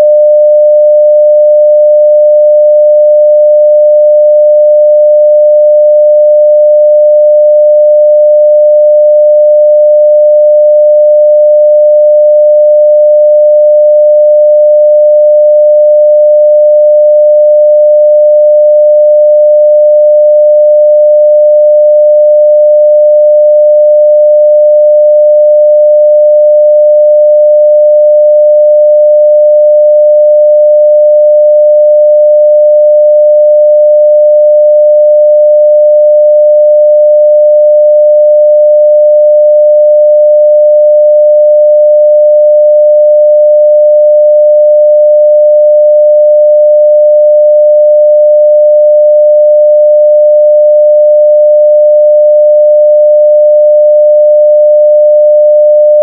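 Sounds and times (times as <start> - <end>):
sine-wave test tone: 0.0 - 56.0.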